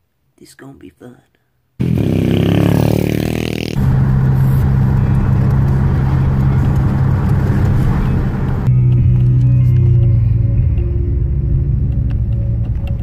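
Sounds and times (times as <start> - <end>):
road noise: 1.8 - 13.0
car engine hum: 2.1 - 13.0.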